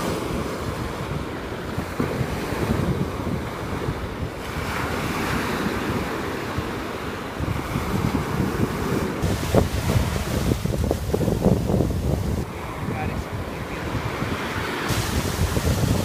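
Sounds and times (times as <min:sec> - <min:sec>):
small waves washing onto shore: 0:00.0 - 0:16.0
wind buffeting microphone: 0:00.0 - 0:16.0.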